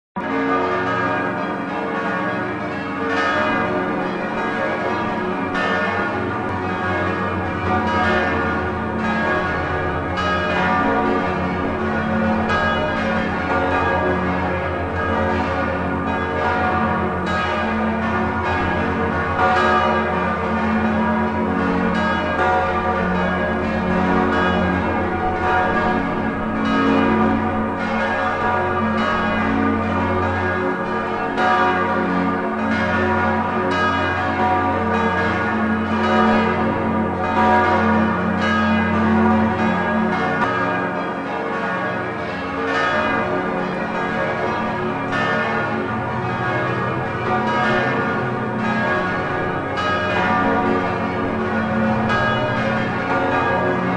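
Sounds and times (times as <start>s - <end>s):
church bells ringing: 0.2s - 53.9s.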